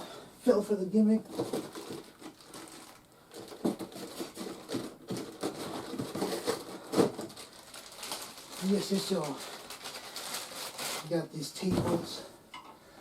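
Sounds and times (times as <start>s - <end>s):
packaging rustling: 1.2s - 12.3s.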